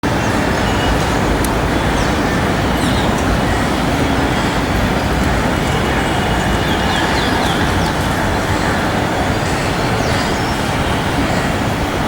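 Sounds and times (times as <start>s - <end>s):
engine rumble: 0.0s - 12.0s
small birds chirping: 0.1s - 12.0s.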